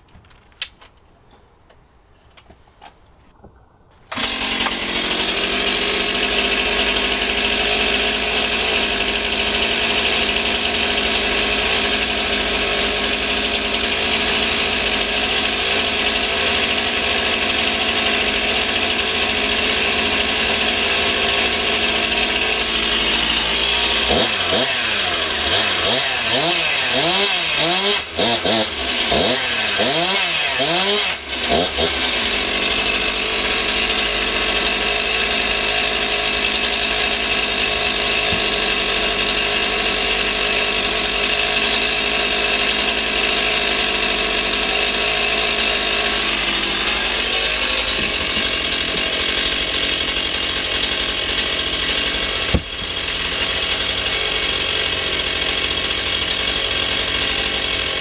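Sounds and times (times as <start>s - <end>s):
chainsaw engine idling: 4.1s - 58.0s
chainsaw engine revving: 4.1s - 58.0s.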